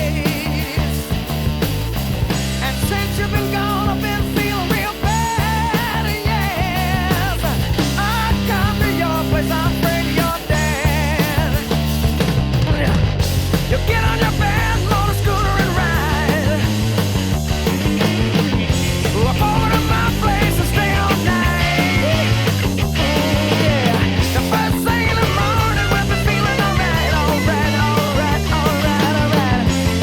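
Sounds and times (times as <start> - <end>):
bass guitar: 0.0 - 30.0
drums: 0.0 - 30.0
electric guitar lead: 0.0 - 30.0.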